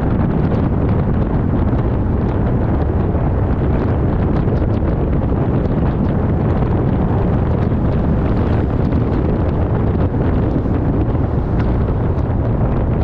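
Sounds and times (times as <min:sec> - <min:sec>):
car wind and road noise: 0:00.0 - 0:13.0.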